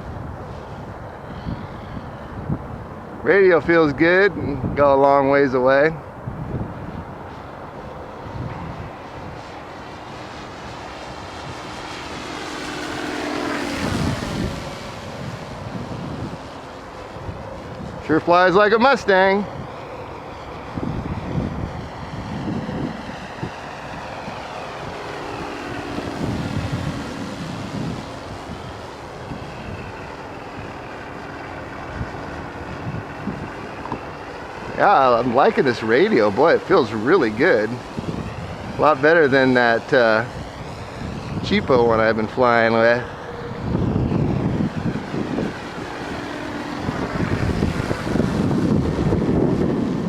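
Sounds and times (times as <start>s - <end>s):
model plane droning: 0.0s - 50.0s
wind buffeting microphone: 0.0s - 50.0s.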